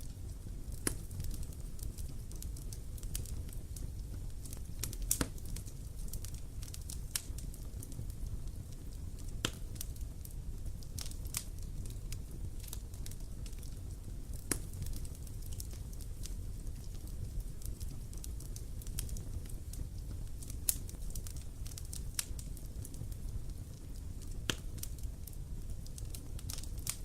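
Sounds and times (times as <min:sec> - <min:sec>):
fire low rumble: 0:00.0 - 0:27.0
wood bonfire crackling: 0:00.0 - 0:27.0.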